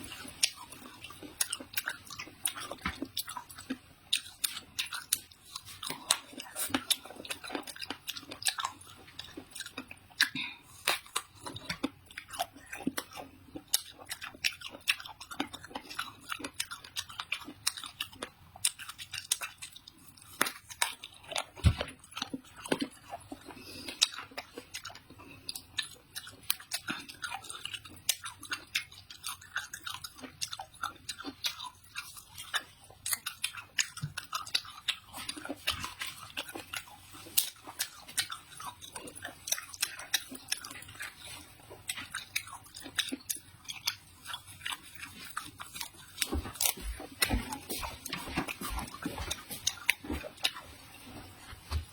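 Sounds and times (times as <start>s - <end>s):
wet chewing crunches: 0.0s - 51.9s.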